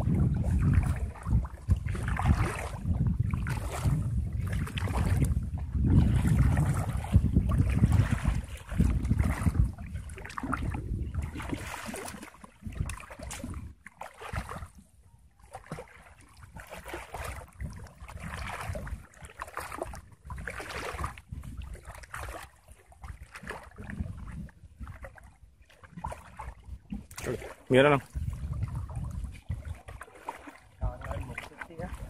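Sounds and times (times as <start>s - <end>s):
water sloshing and splashing: 0.0s - 32.0s.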